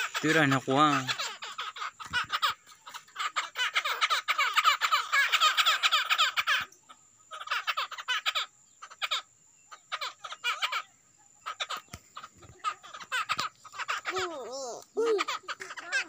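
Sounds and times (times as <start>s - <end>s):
songbirds rattling chirps: 0.0s - 16.0s.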